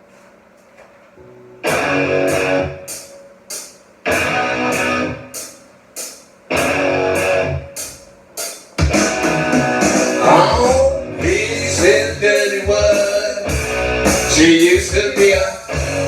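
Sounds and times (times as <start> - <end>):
distorted electric guitar chords: 1.2 - 16.0.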